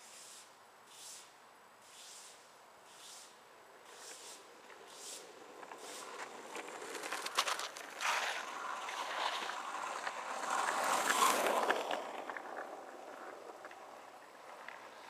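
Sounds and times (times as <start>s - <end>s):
skateboard wheels rolling on asphalt: 1.8s - 15.0s.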